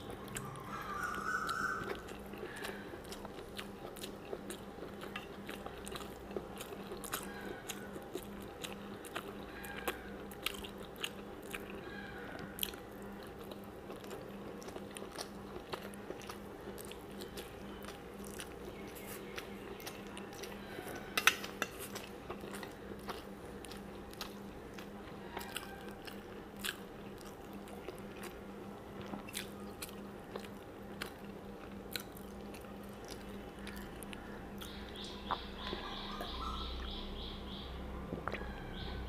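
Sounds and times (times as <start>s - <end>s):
person chewing food: 0.0s - 36.5s, 38.1s - 38.6s
low steady hum: 0.0s - 39.0s.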